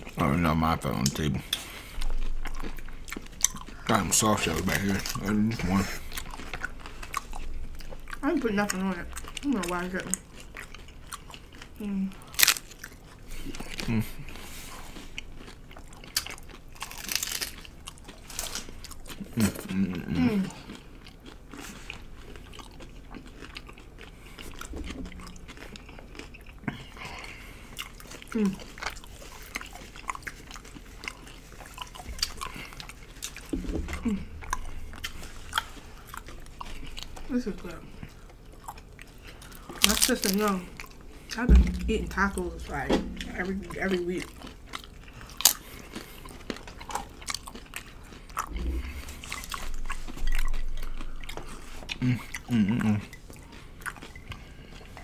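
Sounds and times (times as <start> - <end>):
chewing crunchy taco shells: 0.0 - 55.0.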